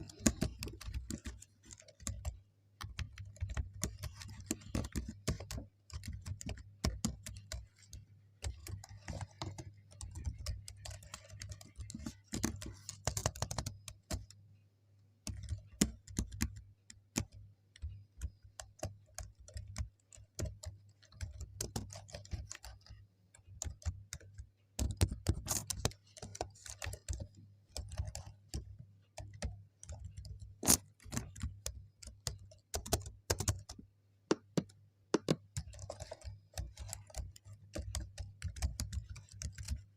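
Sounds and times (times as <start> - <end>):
typing on keyboard: 0.0 - 14.5, 15.2 - 39.9.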